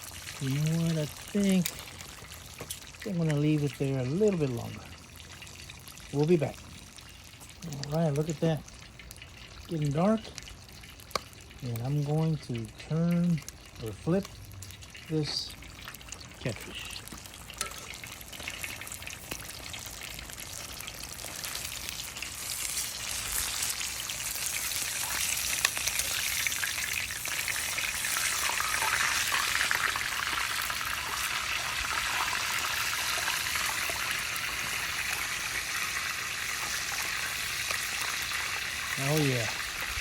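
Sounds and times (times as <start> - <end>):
fish frying in oil: 0.0 - 40.0.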